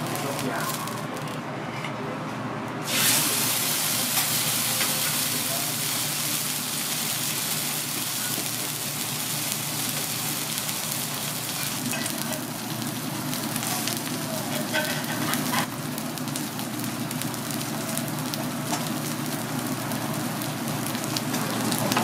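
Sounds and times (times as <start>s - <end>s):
steak sizzling on a griddle: 0.0s - 1.3s, 2.8s - 22.0s.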